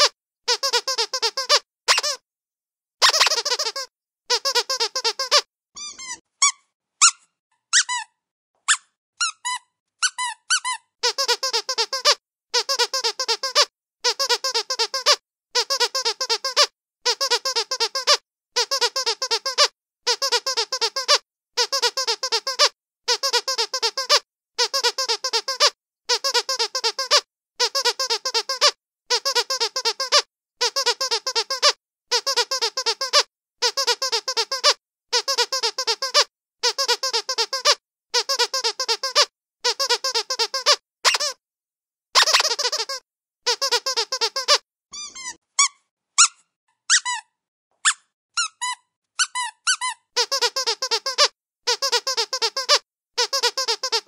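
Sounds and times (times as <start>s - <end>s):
squeaky dog toy squeaking: 0.0s - 2.2s, 3.0s - 41.4s, 42.2s - 54.0s.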